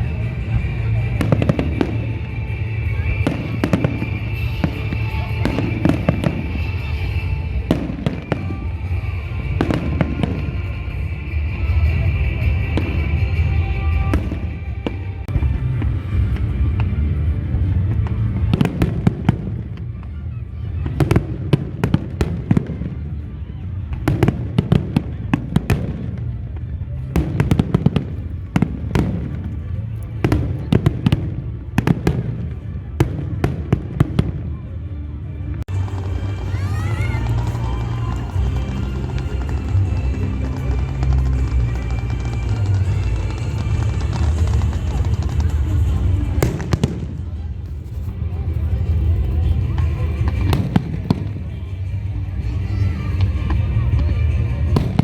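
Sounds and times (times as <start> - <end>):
music playing: 0.0 - 22.7, 24.0 - 55.0
fireworks bangs: 0.0 - 34.6, 35.6 - 55.0.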